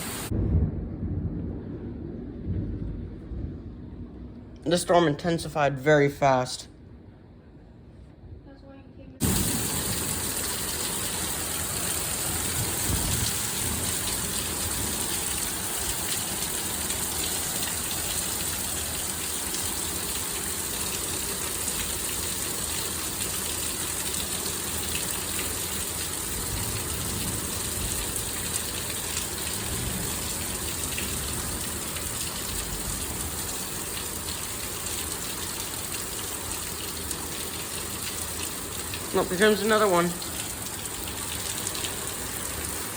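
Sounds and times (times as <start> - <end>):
torrential rain pouring: 0.0 - 0.7, 9.2 - 42.9.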